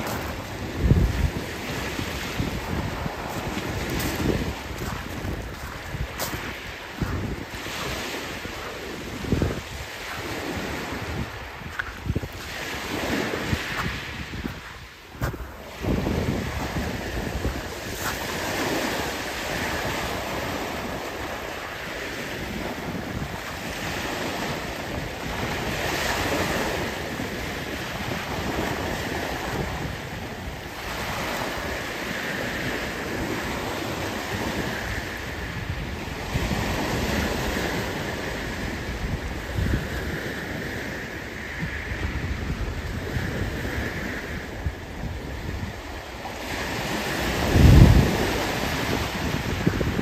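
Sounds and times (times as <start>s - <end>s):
waves washing over pebbles: 0.0s - 50.0s
wind buffeting microphone: 0.0s - 50.0s.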